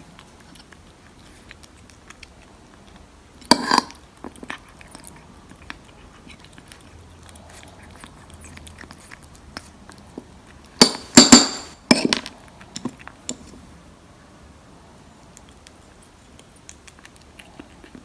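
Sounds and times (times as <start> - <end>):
kitten licking and chewing food: 0.0 - 18.0.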